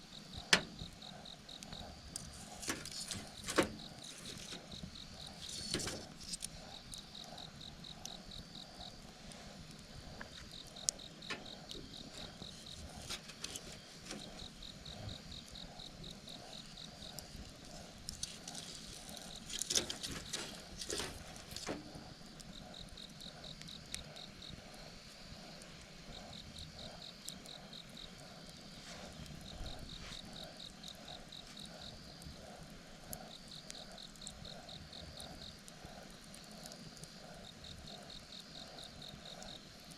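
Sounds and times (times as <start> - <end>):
insects chirping: 0.0 - 39.9
wood fire crackling: 0.0 - 39.9.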